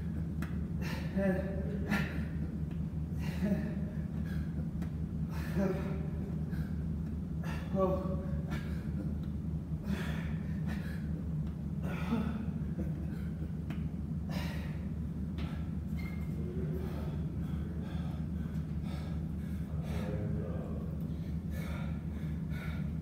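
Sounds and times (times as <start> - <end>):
steady low hum: 0.0 - 23.0
man breathing hard: 0.4 - 20.3, 21.0 - 23.0.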